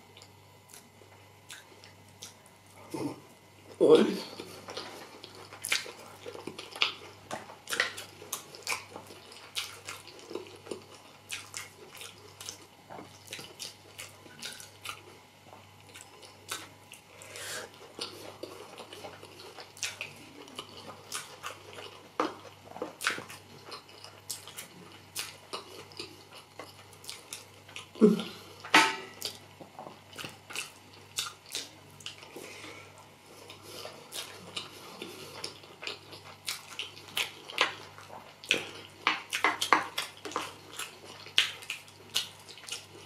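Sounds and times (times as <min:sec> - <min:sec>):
chewing soft wet food: 0:00.0 - 0:43.0.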